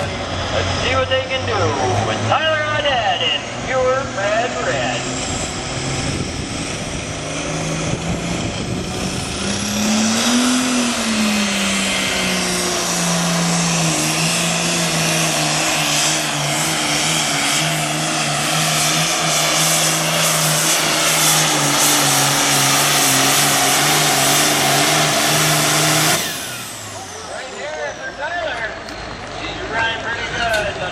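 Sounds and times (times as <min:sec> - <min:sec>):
diesel tractor engine full throttle: 0:00.0 - 0:30.9.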